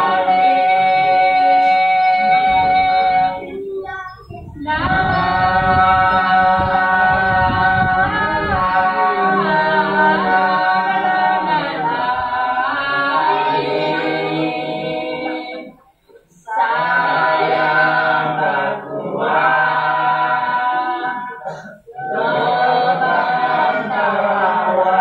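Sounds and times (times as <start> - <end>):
group singing without instruments: 0.0 - 25.0.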